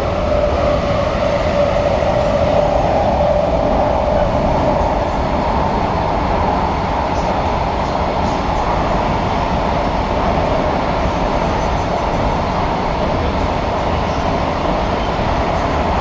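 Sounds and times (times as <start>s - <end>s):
train rumble from inside: 0.0s - 16.0s.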